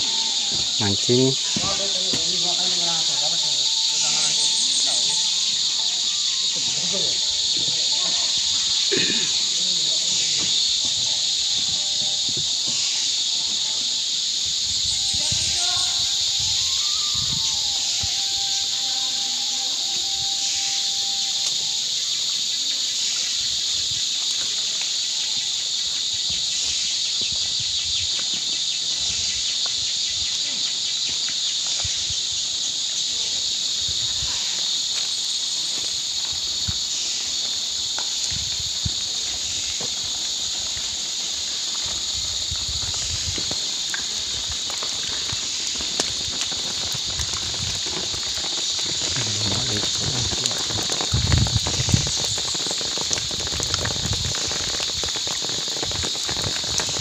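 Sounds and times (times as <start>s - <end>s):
insect chorus drone: 0.0s - 57.0s.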